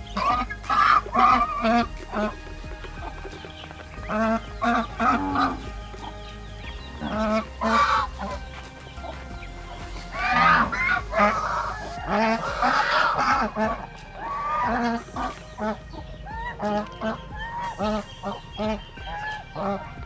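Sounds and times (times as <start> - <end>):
ducks honking: 0.0 - 20.0.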